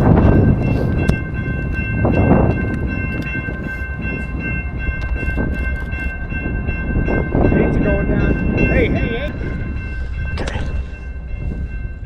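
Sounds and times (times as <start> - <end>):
freight train rumble with high tones: 0.0 - 12.0.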